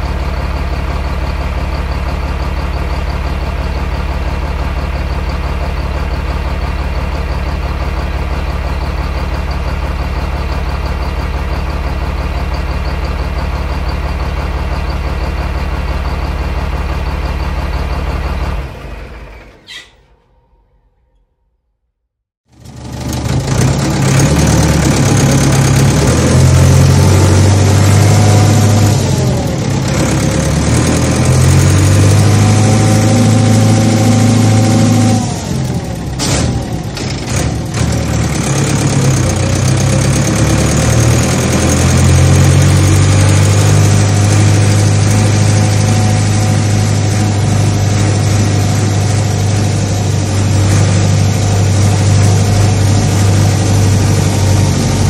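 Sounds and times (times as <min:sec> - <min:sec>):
heavy machinery engines humming: 0:00.0 - 0:21.2, 0:22.6 - 0:55.0.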